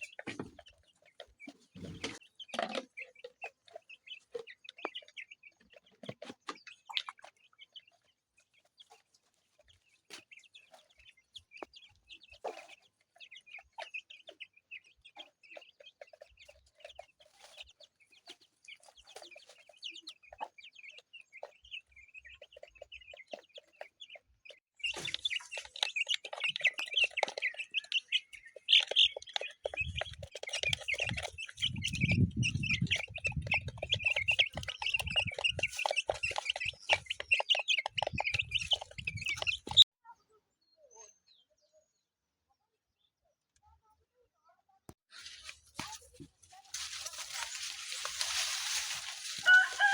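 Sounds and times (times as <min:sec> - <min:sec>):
chicks peeping: 0:00.0 - 0:39.8, 0:47.0 - 0:49.9.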